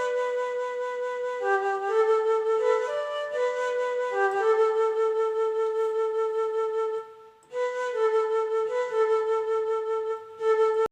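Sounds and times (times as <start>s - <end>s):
flute melody in long notes: 0.0s - 10.9s.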